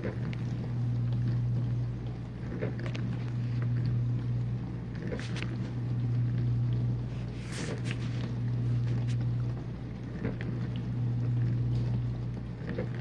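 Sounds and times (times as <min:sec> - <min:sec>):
dishwasher pump hum: 0:00.0 - 0:13.0.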